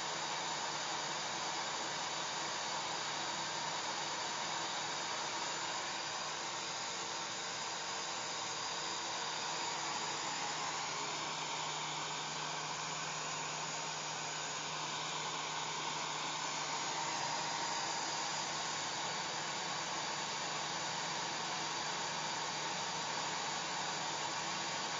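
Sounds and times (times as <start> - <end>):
hair dryer running: 0.0 - 24.9.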